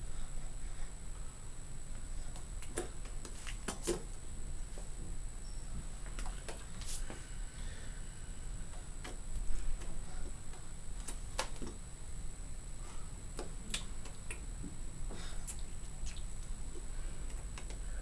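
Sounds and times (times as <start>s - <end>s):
faint high whine: 0.0s - 18.0s
steady low hum: 0.0s - 18.0s.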